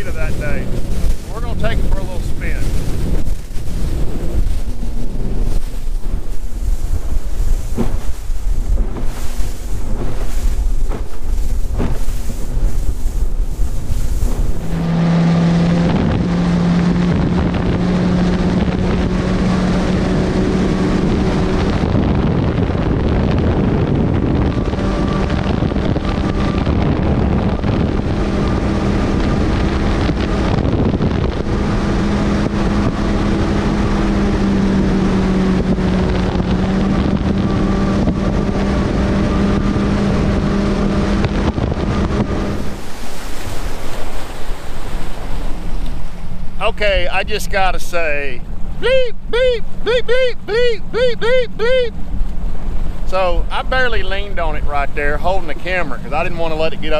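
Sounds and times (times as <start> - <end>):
boat engine drone: 0.0 - 56.9
rush of wind and water: 0.0 - 56.9
wind buffeting microphone: 0.0 - 56.9.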